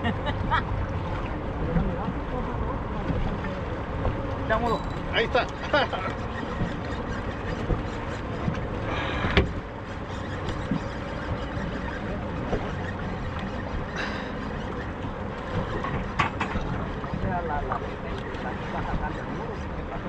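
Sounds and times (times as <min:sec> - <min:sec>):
water noise: 0:00.0 - 0:20.0
wind: 0:00.0 - 0:20.0.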